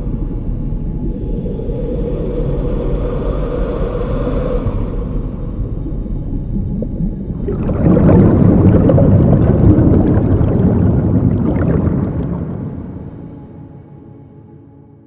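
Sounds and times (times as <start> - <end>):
low noisy drone: 0.0 - 15.0.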